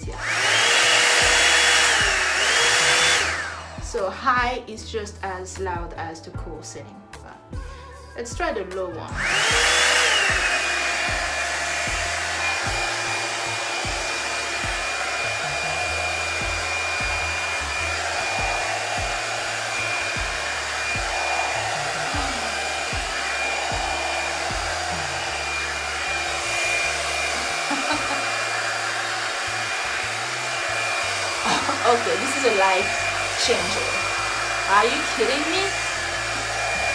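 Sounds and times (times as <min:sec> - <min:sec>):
blow dryer running: 0:00.0 - 0:04.5, 0:09.1 - 0:36.9.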